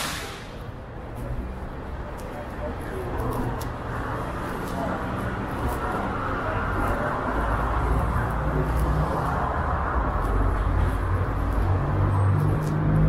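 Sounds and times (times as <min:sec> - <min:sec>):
engine hum: 0:00.0 - 0:13.0
traffic rumble: 0:00.0 - 0:13.0.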